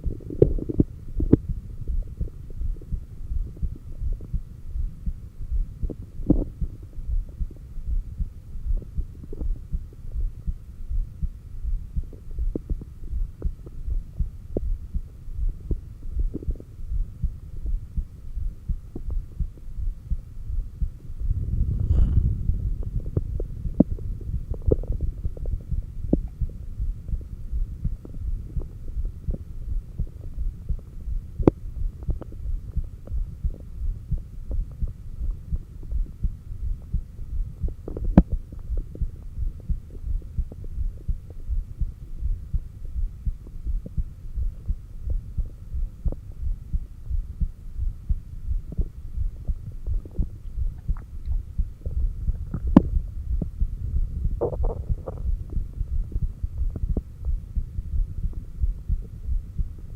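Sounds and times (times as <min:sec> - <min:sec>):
faint hum: 0:00.0 - 0:59.9
heartbeat through stethoscope: 0:00.0 - 0:59.9.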